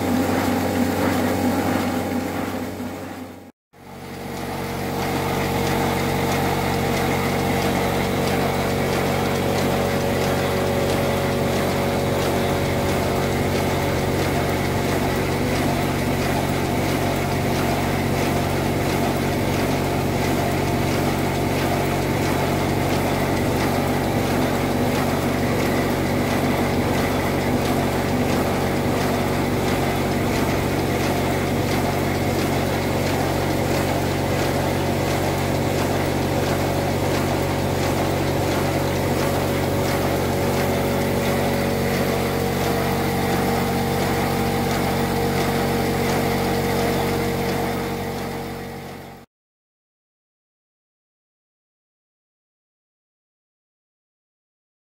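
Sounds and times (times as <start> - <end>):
model steam locomotive running: 4.4 - 49.2.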